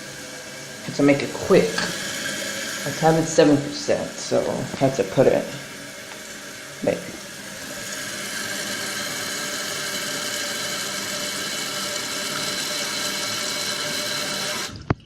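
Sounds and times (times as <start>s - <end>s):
toilet tank refilling hiss: 0.0s - 15.0s.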